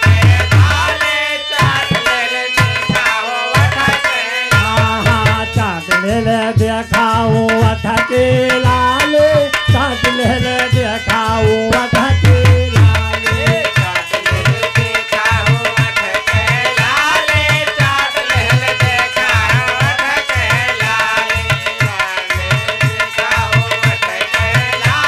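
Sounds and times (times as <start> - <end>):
dholak drum rhythm: 0.0 - 25.0
harmonium melody: 0.0 - 25.0.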